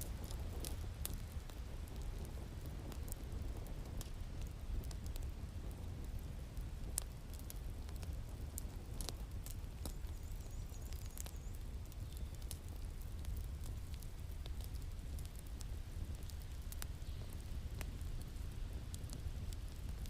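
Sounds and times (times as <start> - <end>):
low fire rumble: 0.0 - 20.0
wood fire popping: 0.0 - 20.0.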